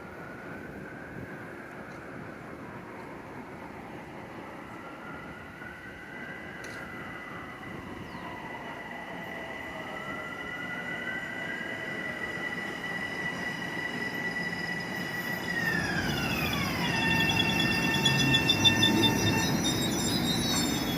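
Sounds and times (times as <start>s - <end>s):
electric train whine: 0.0s - 20.9s
train wheels rumbling on rail: 1.4s - 20.9s.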